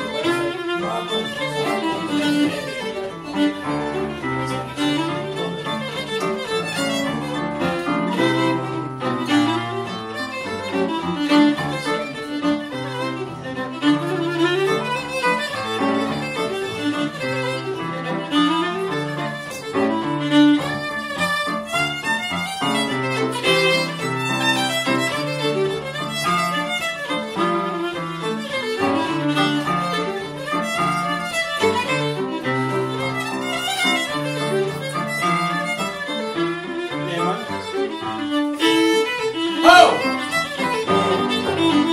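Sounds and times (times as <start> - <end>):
fiddle playing lively folk tune: 0.0 - 41.9.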